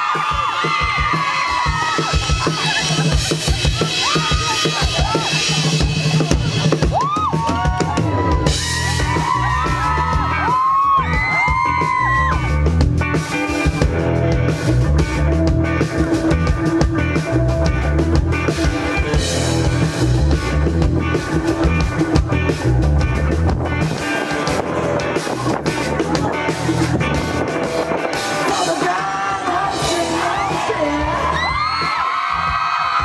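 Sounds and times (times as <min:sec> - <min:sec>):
drum kit beating: 0:00.0 - 0:33.0
live rock band playing: 0:00.0 - 0:33.0
bass line: 0:02.3 - 0:33.0.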